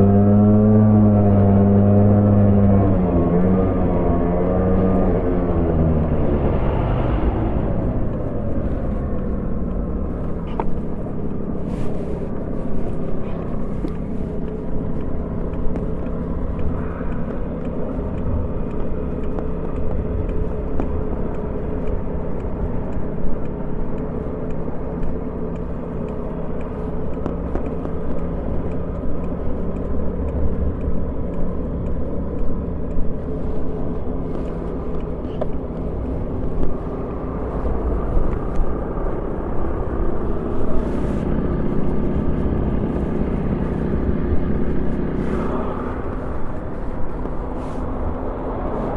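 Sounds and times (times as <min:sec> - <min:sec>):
scooter engine running: 0:00.0 - 0:48.9
wind rumble on microphone: 0:00.0 - 0:48.9.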